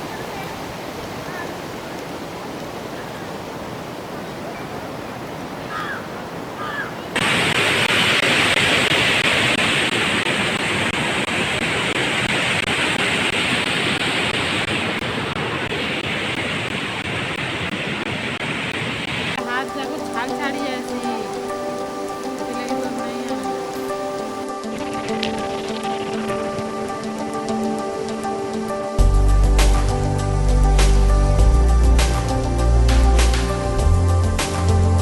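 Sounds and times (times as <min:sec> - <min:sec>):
waterfall rushing: 0:00.0 - 0:33.7.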